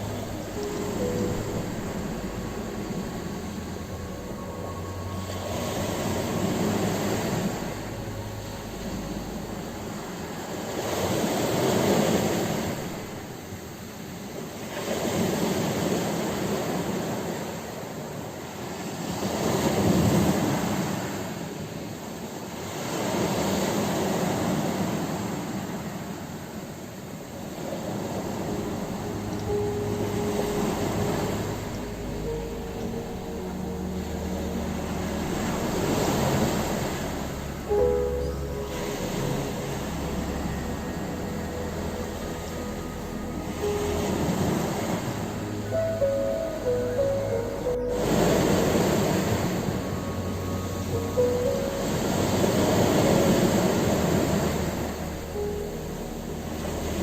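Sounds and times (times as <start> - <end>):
ocean surf washing on shore: 0.0 - 57.0.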